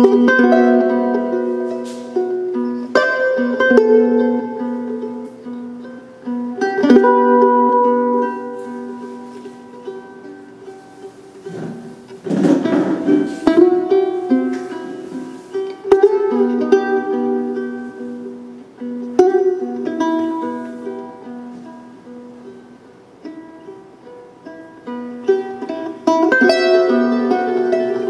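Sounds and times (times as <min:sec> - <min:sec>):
instrumental string music: 0:00.0 - 0:28.0.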